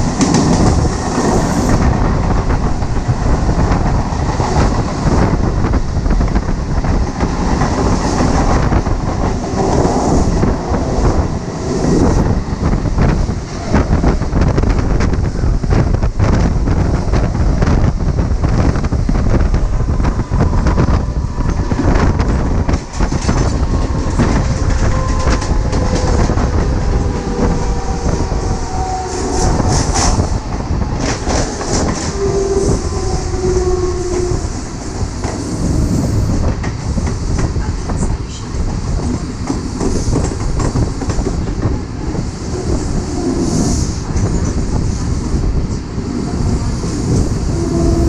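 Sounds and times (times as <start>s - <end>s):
train wheels clattering over rail joints: 0.0s - 35.6s, 36.4s - 48.0s.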